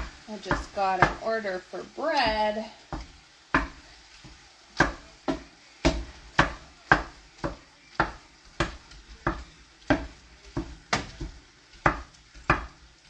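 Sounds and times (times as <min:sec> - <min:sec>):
wooden spatula knocking against pan: 0:00.0 - 0:01.2, 0:02.2 - 0:13.0.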